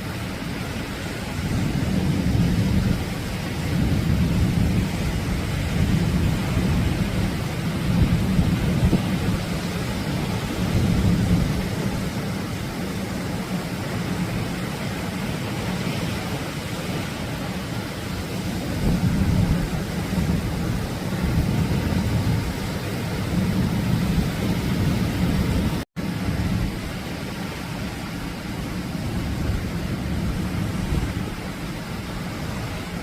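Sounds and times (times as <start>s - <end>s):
ocean surf breaking on shore: 0.0s - 33.0s.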